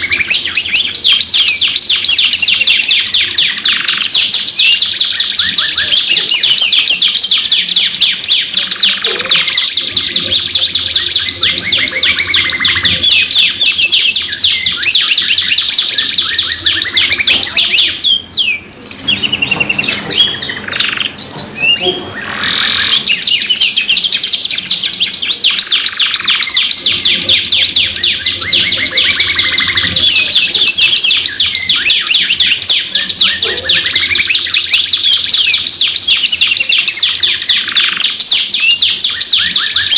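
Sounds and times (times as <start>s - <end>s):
canaries singing rolling trills: 0.0s - 39.9s.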